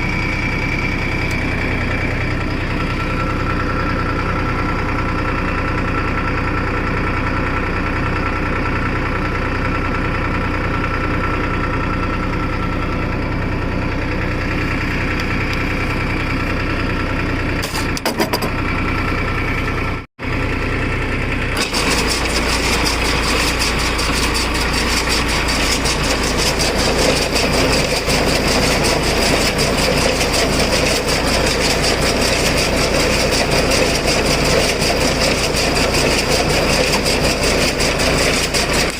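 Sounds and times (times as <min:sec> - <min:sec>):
engine mechanical clatter: 0:00.0 - 0:38.9
tractor diesel engine running: 0:00.0 - 0:38.9.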